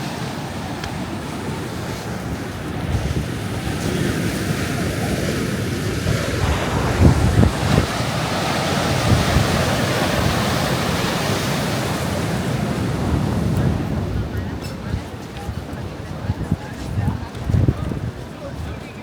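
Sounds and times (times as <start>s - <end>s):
gusty wind buffeting microphone: 0.0s - 19.0s
steady surf: 0.0s - 19.0s.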